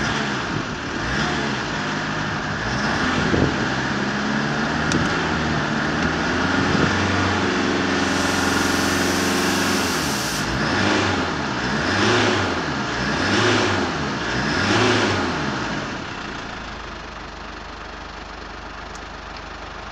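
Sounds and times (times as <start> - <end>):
diesel engine revving: 0.0 - 16.8.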